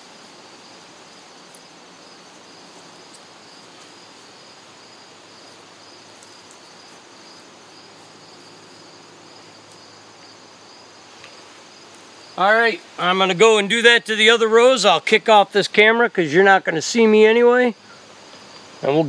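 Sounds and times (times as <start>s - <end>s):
faint hiss: 0.0s - 19.0s
insects trilling: 0.0s - 19.0s.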